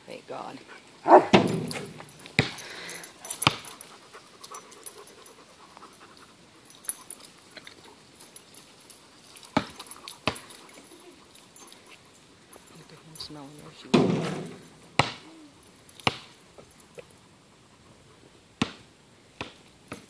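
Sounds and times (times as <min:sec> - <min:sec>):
dogs panting: 0:00.4 - 0:18.6.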